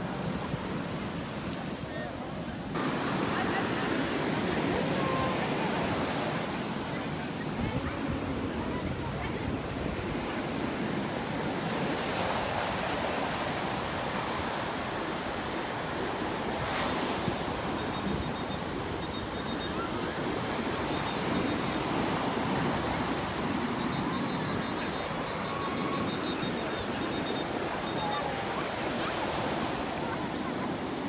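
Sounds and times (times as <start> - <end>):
waves washing onto shore: 0.0 - 31.0.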